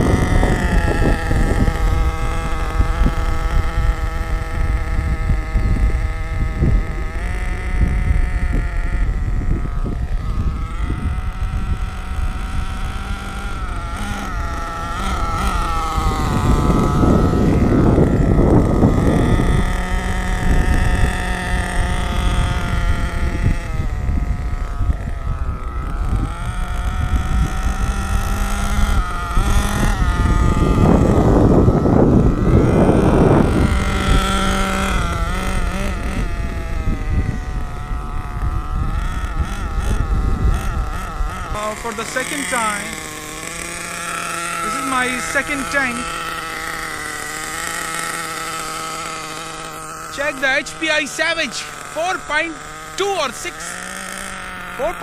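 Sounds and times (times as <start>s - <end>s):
model engine revving: 0.0s - 55.0s.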